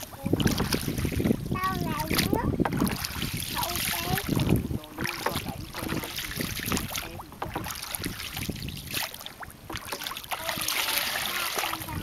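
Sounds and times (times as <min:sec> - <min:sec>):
water splashing around boat: 0:00.0 - 0:12.0
wind buffeting microphone: 0:00.0 - 0:12.0.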